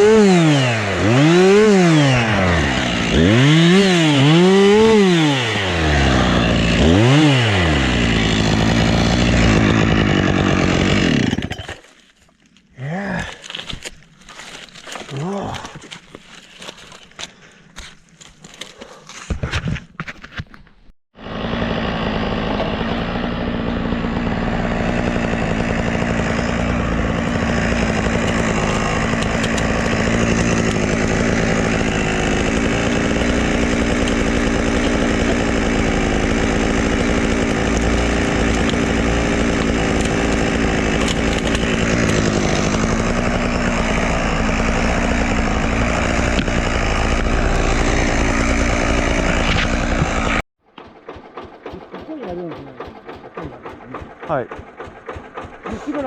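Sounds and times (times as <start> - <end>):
chainsaw running: 0.0 - 11.9, 13.2 - 18.9, 21.2 - 56.0.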